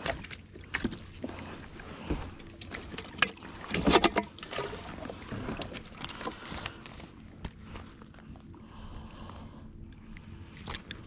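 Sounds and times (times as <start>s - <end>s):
water lapping at hull: 0.0s - 11.0s.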